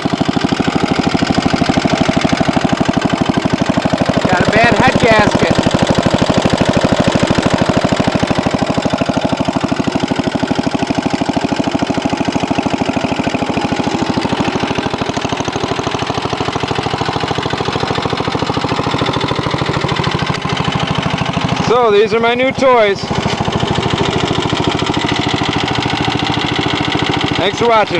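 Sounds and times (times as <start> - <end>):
engine running with heavy knock: 0.0 - 27.9.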